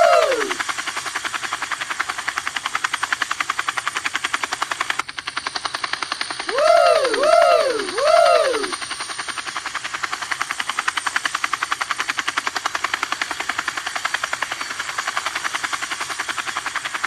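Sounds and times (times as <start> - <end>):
toy helicopter rotor chopping: 0.0 - 17.0.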